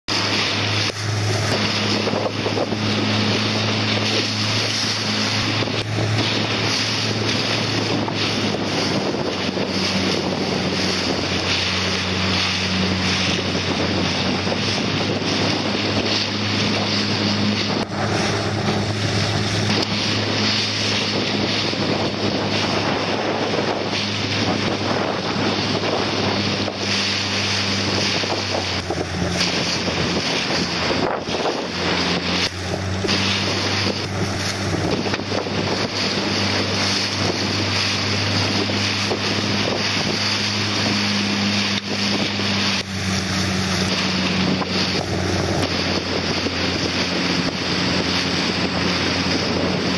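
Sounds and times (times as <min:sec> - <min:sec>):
boat motor hum: 0:00.0 - 0:49.9
water rushing past a hull: 0:00.0 - 0:49.9
wind buffeting microphone: 0:00.1 - 0:49.9.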